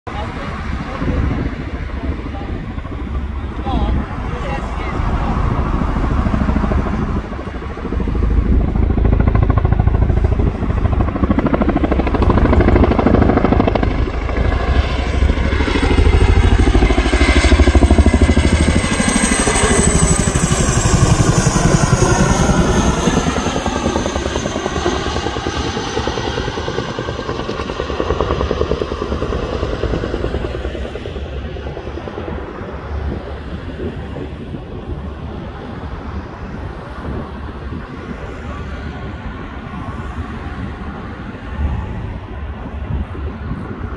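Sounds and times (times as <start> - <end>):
helicopter rotor beat: 0.1 - 43.9.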